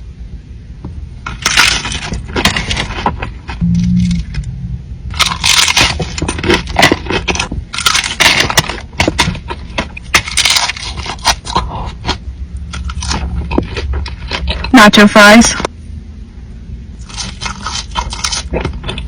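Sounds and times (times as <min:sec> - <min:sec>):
low steady hum: 0:00.0 - 0:19.0
crunchy bites and chewing: 0:01.2 - 0:15.0, 0:16.9 - 0:19.0.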